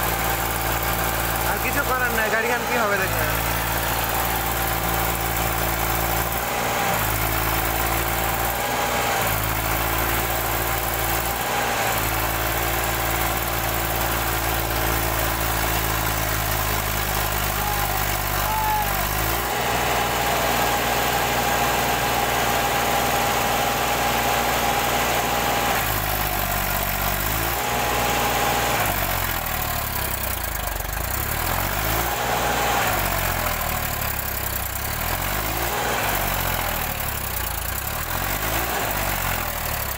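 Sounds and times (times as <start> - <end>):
tractor engine revving under load: 0.0 - 39.9.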